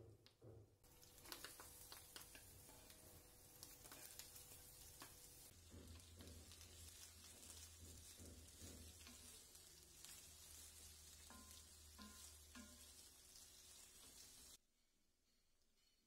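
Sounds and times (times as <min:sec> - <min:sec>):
onions sizzling in oil: 0:00.8 - 0:14.6
wooden spoon scraping pan: 0:01.1 - 0:14.6.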